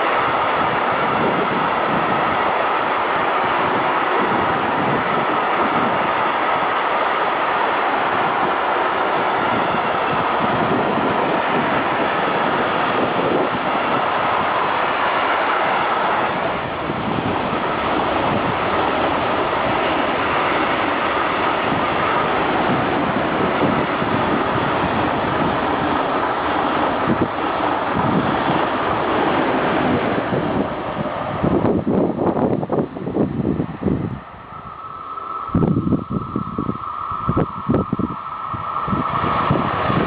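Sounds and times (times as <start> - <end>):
train wheels rolling on rails: 0.0 - 40.0.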